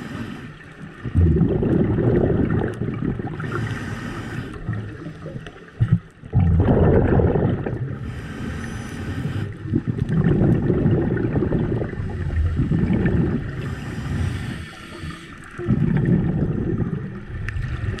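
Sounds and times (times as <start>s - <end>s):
diver's bubbles gurgling: 0.8s - 18.0s.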